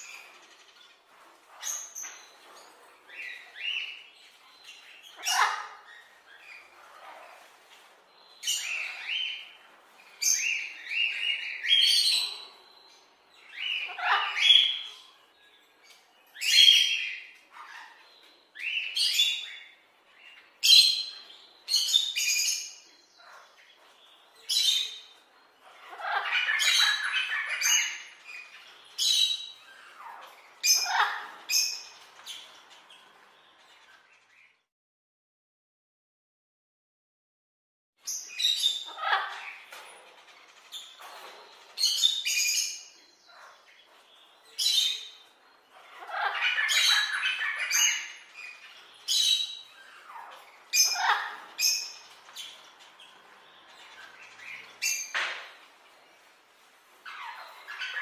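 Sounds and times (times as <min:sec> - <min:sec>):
parrots calling: 0:04.7 - 0:07.6, 0:08.4 - 0:12.6, 0:13.4 - 0:15.2, 0:16.3 - 0:34.3, 0:38.1 - 0:58.0.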